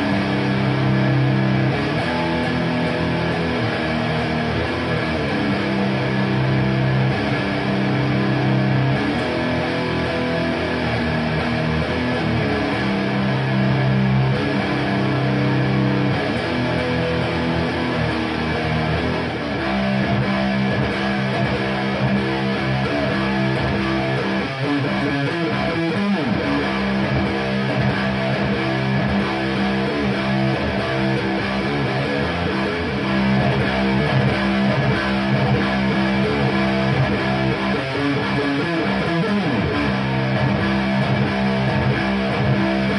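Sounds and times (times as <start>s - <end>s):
electric guitar strumming chords: 0.0s - 42.9s.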